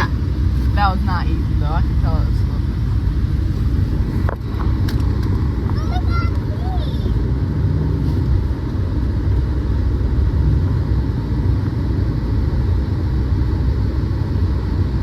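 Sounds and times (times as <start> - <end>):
truck driving through snow: 0.0 - 15.0.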